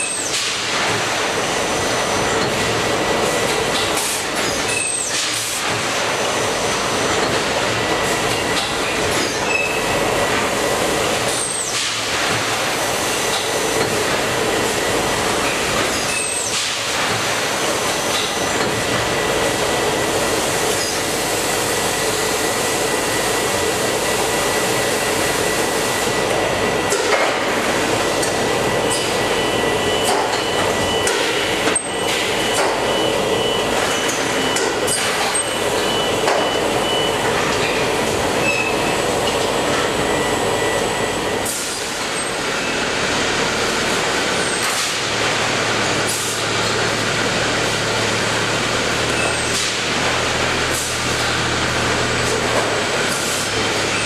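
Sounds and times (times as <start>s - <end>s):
conveyor rollers and motors running: 0.0s - 54.0s.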